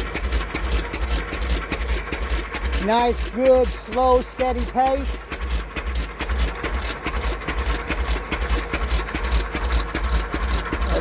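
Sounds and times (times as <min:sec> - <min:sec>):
pump engine firing slowly: 0:00.0 - 0:11.0.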